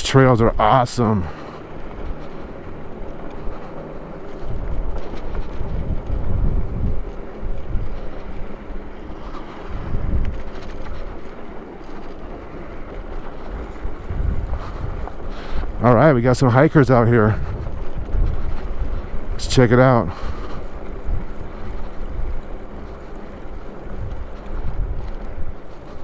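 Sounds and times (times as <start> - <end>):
electric bike rumbling: 0.0 - 26.0
wind buffeting microphone: 0.0 - 26.0.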